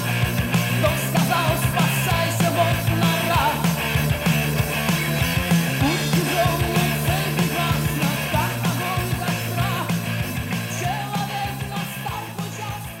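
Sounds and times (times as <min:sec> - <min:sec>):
rock music with vocals: 0:00.0 - 0:13.0.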